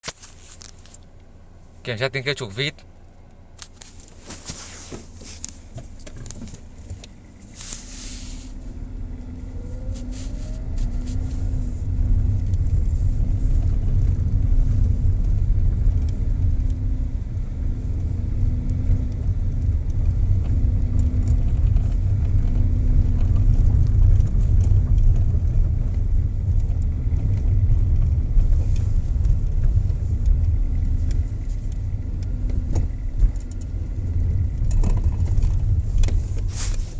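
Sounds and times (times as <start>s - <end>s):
car engine rumble: 0.0s - 36.9s
pulsing low hum: 2.7s - 36.9s.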